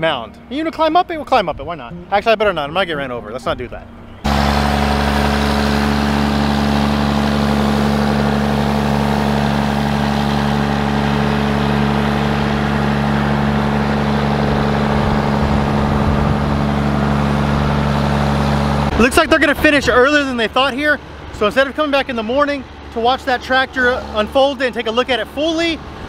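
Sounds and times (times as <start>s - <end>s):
tractor diesel engine running: 3.8s - 26.0s.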